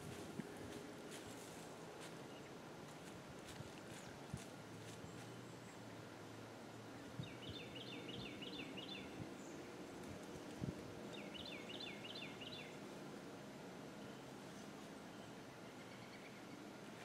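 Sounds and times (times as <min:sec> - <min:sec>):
faint outdoor background noise: 0:00.0 - 0:17.0.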